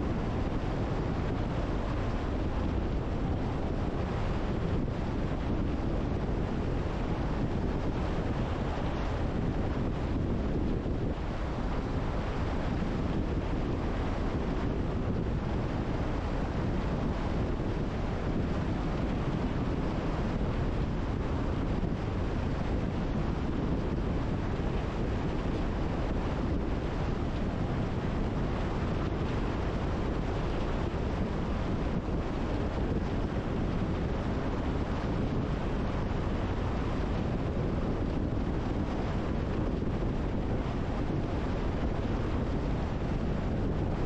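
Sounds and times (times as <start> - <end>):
rushing wind: 0.0 - 44.0.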